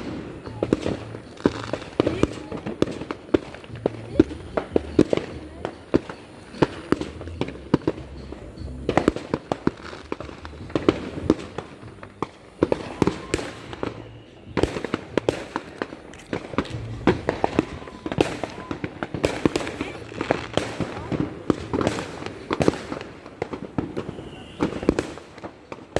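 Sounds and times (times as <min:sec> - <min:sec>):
fireworks and firecrackers banging: 0:00.0 - 0:25.9.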